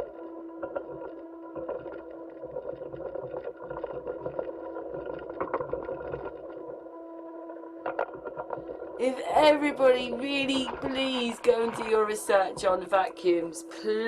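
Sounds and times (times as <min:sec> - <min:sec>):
crackles and clicks: 0:00.0 - 0:14.0
steady tonal hum: 0:00.0 - 0:14.0.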